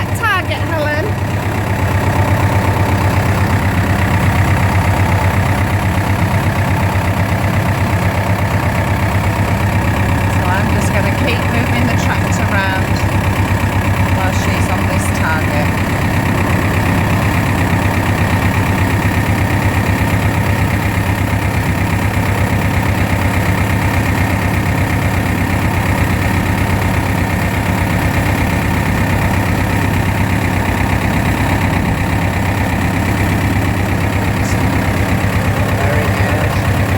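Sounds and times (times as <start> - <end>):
tractor diesel engine chugging: 0.0 - 36.9.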